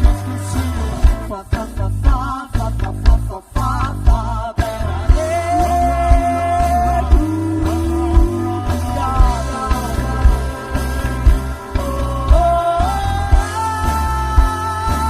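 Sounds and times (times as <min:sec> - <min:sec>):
bass: 0:00.0 - 0:15.0
drum kit beats: 0:00.0 - 0:15.0
electric guitar: 0:00.0 - 0:15.0
person singing: 0:00.0 - 0:15.0.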